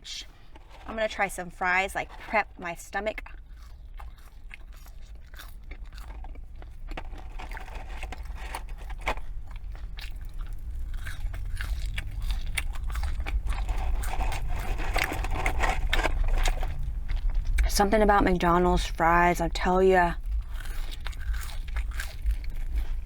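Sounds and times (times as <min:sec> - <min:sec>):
chewing crisp fries: 0:00.1 - 0:23.0.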